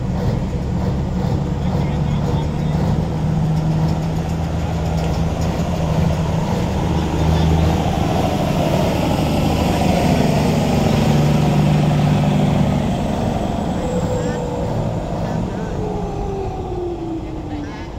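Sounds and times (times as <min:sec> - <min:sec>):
heavy diesel engines running: 0:00.0 - 0:17.9.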